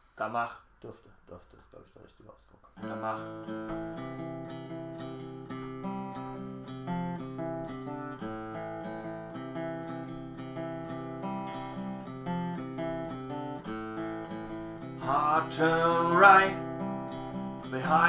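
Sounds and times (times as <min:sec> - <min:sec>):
acoustic guitar strumming chords: 0:02.8 - 0:18.0.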